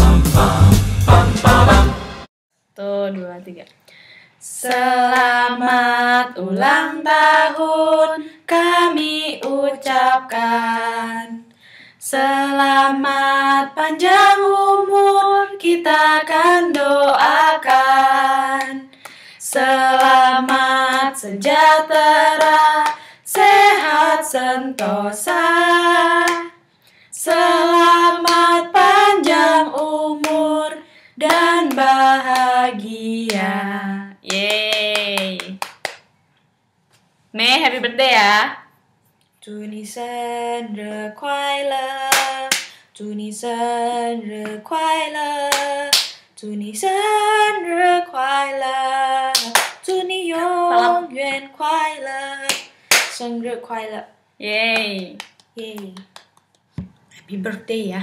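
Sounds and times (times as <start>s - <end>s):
women singing unaccompanied: 4.4s - 26.6s, 27.2s - 35.6s, 39.4s - 55.2s.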